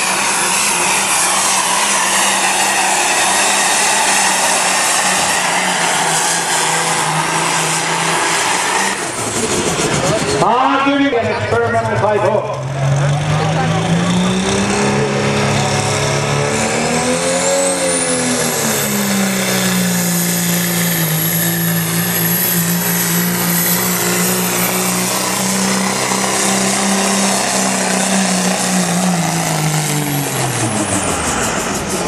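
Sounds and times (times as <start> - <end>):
diesel engine revving hard: 0.0 - 32.0.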